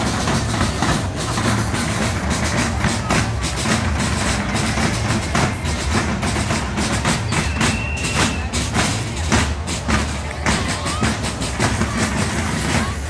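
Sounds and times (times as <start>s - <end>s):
crowd voices: 0.0s - 13.0s
marching drums beating: 0.0s - 13.0s.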